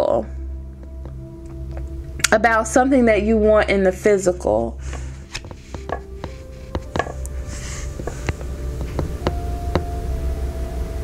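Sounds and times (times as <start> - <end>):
soft music of struck notes: 0.0 - 11.0
steady low hum: 0.0 - 11.0.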